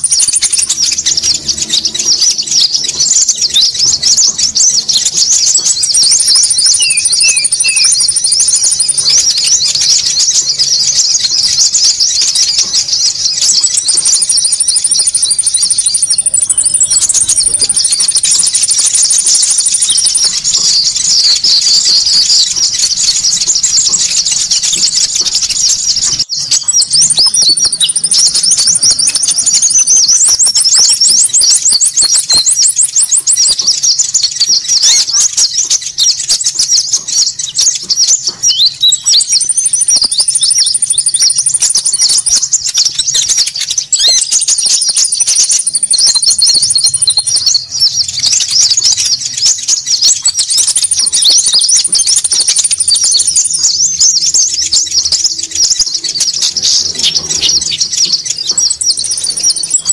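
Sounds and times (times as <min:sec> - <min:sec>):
birds chirping: 0:00.0 - 0:59.9
fast bird trill: 0:00.0 - 0:59.9.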